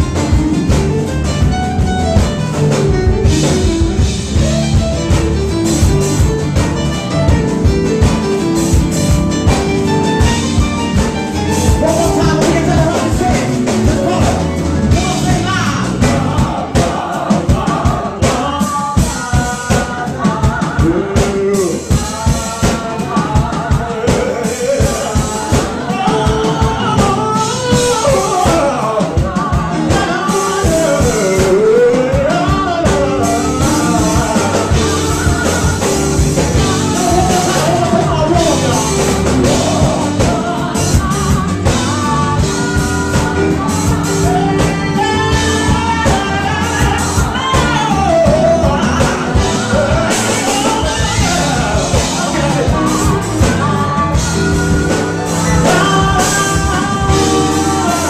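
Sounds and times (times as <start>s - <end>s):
drum kit beat: 0.0s - 58.0s
keyboard: 0.0s - 58.0s
man singing: 9.5s - 58.0s.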